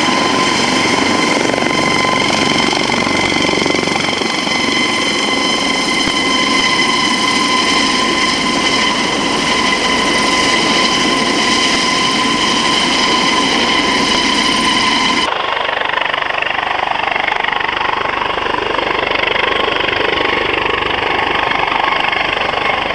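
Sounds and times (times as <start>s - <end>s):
helicopter rotor and engine noise: 0.0s - 22.9s
helicopter turbine whine: 0.0s - 22.9s.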